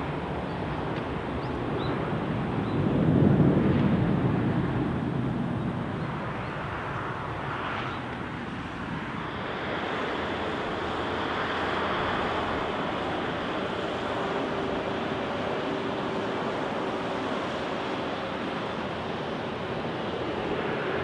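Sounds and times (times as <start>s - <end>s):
distant airport noise: 0.0s - 21.0s
jet engines rumbling: 0.0s - 21.0s
wind hiss: 0.0s - 21.0s.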